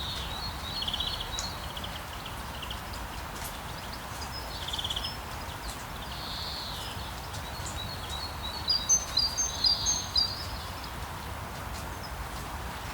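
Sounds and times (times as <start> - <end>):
steady rain hiss: 0.0 - 12.9.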